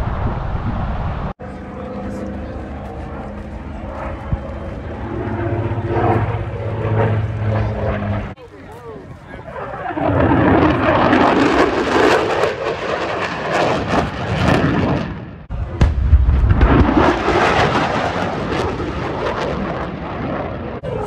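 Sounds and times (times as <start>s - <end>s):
fighter jet flying past: 0.0s - 21.0s.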